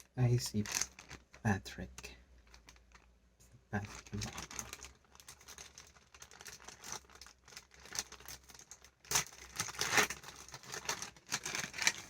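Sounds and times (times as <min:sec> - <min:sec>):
plastic packaging crinkling: 0:00.0 - 0:03.2, 0:03.8 - 0:12.0.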